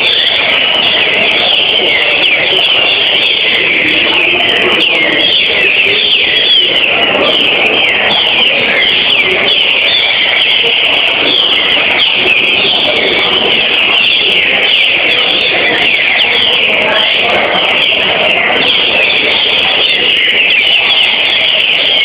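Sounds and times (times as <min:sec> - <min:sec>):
birds singing whistled phrases: 0:00.0 - 0:22.0.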